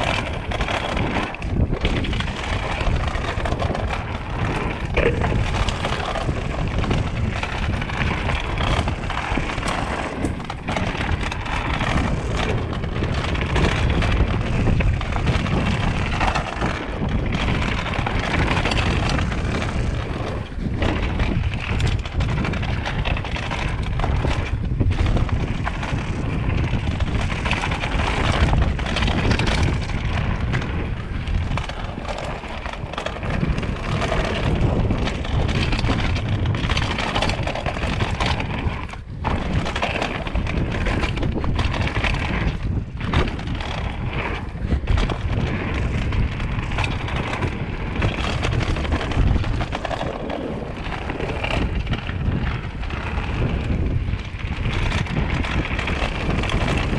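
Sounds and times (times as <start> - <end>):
bike clicks and clatters: 0.0 - 56.9
bike tyre rumble: 0.0 - 56.9
wind on microphone: 0.0 - 56.9.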